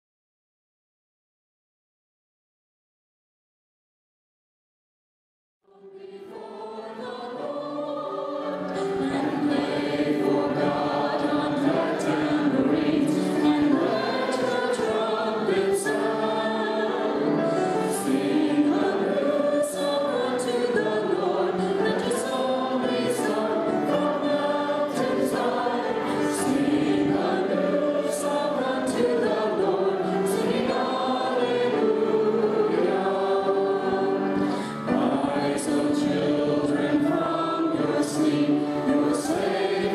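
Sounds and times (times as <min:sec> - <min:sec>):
choir singing a hymn: 0:05.7 - 0:39.9.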